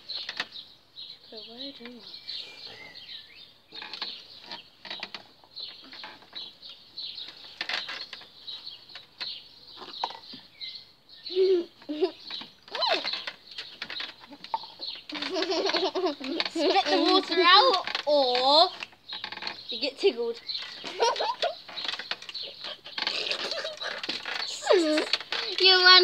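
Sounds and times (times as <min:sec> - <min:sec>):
rustling and crackling: 0:00.0 - 0:03.1, 0:03.7 - 0:10.5, 0:11.4 - 0:26.0.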